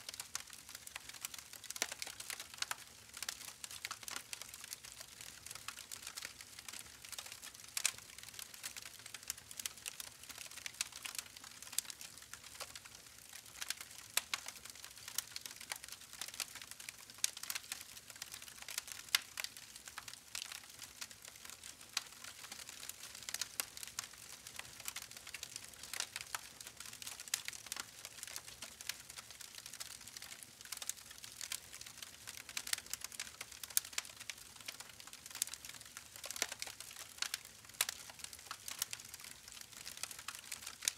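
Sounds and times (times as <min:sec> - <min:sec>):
campfire crackling and hissing: 0:00.0 - 0:40.9.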